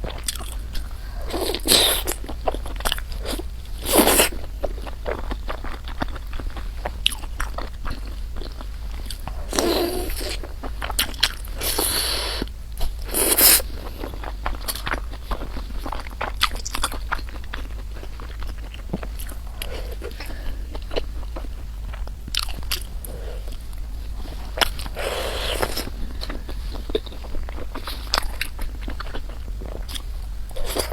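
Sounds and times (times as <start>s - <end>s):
person chewing and crunching food: 0.0s - 30.9s.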